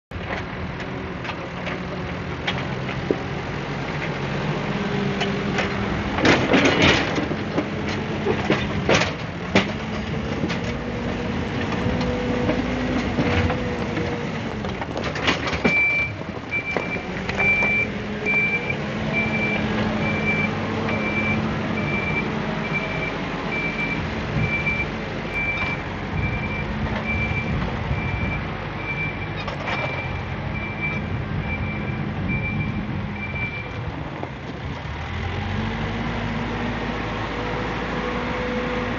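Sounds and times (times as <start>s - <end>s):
construction machine engine: 0.1s - 38.9s.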